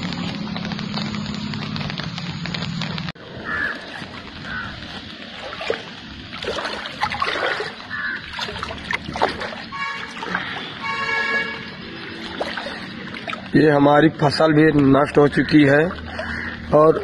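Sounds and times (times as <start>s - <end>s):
floodwater sloshing: 0.0s - 17.0s
water splashes: 0.0s - 17.0s.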